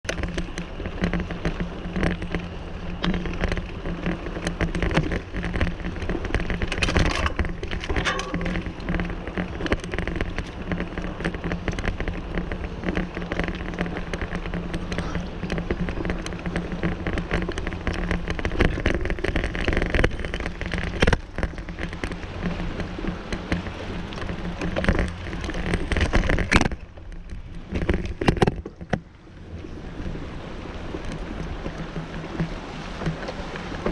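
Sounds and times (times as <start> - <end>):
bike rattling clicks: 0.1 - 29.1.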